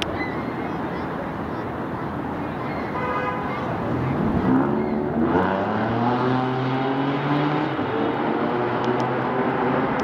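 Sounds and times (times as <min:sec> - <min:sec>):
city traffic noise: 0:00.0 - 0:10.0.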